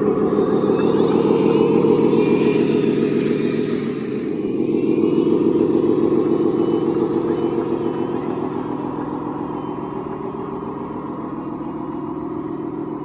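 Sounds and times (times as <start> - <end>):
small electric motors running: 0.0 - 11.4
motor whines: 0.0 - 13.0.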